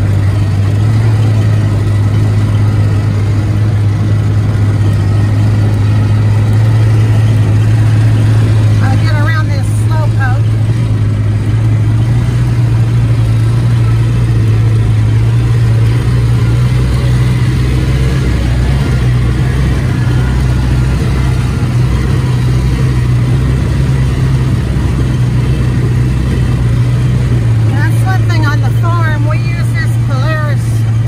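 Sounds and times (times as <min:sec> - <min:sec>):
farm vehicle engine droning: 0:00.0 - 0:31.0.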